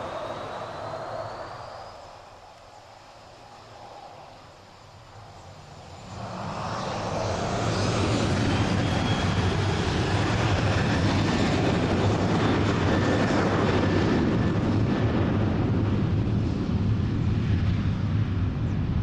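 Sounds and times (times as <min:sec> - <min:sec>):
jet engines spooling up: 0:00.0 - 0:18.9.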